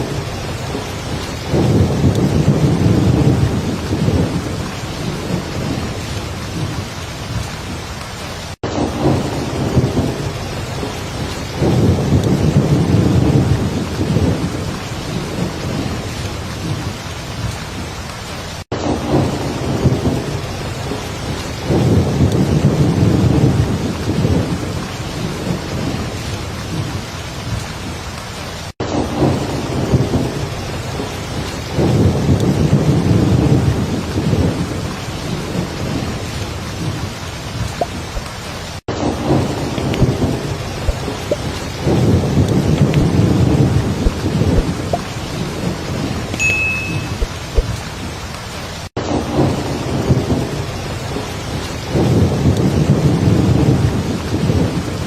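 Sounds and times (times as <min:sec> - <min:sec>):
deep rumble of thunder: 0:00.0 - 0:17.9, 0:18.7 - 0:27.9, 0:28.9 - 0:38.3, 0:39.0 - 0:46.3, 0:49.0 - 0:55.0
heavy rain falling: 0:00.0 - 0:55.0.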